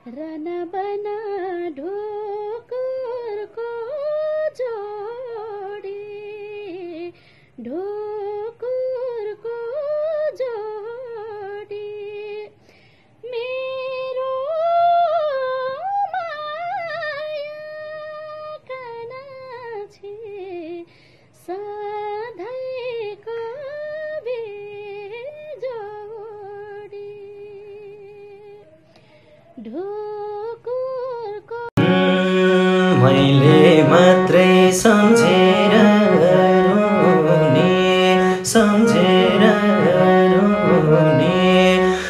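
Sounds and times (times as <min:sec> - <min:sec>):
woman singing unaccompanied: 0:00.0 - 0:12.5, 0:13.2 - 0:20.8, 0:21.4 - 0:28.6, 0:29.6 - 0:42.0.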